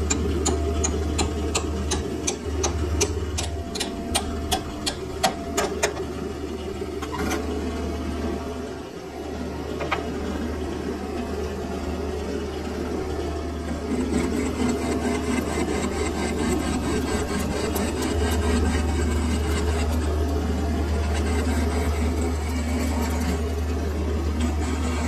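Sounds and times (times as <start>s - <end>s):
lathe motor hum: 0.0s - 25.0s.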